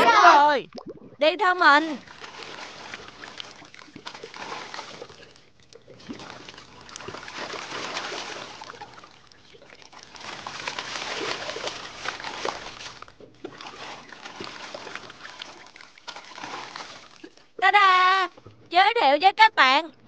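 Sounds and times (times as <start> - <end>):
underwater bubbling and gurgling: 0.6 - 17.6.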